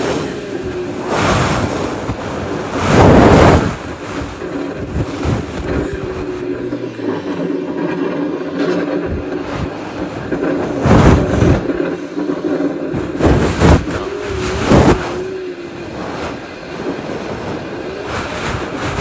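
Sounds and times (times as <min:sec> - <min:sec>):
strong wind gusting on microphone: 0:00.0 - 0:06.9, 0:07.8 - 0:19.0.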